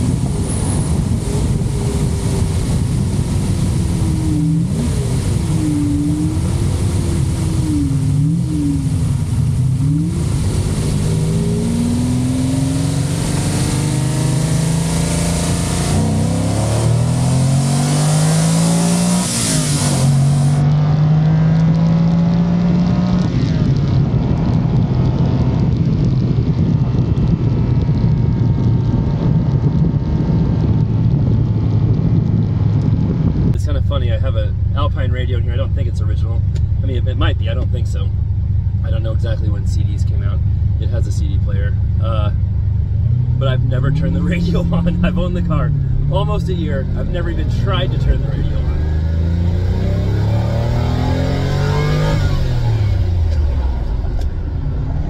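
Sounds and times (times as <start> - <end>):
car engine revving: 0.0 - 55.0
wind and road noise: 0.0 - 55.0.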